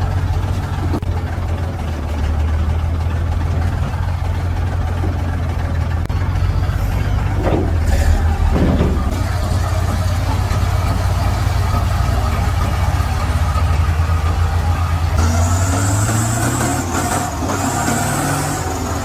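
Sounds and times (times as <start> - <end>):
heavy truck engine running: 0.0 - 19.0.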